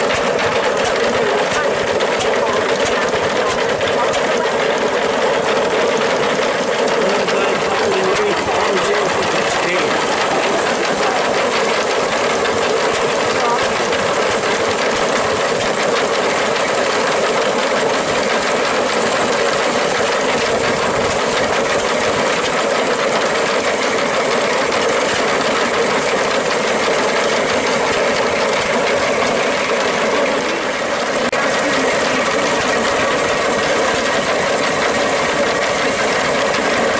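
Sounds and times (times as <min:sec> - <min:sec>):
threshing machine rattling: 0:00.0 - 0:36.9.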